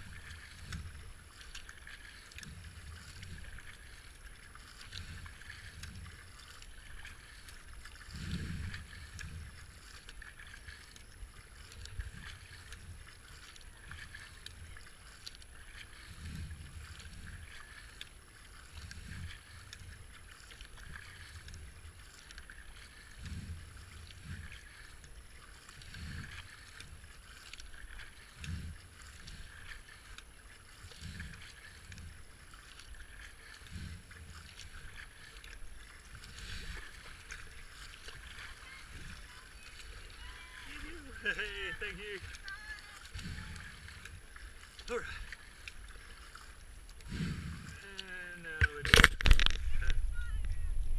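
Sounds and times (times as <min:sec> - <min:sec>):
water washing along kayak hull: 0:00.0 - 0:50.9.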